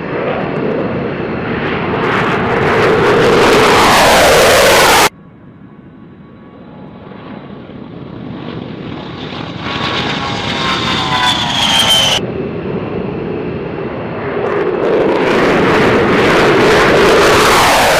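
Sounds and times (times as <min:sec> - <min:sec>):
jet engine roar: 0:00.0 - 0:17.9
jet engines whining: 0:00.0 - 0:17.9.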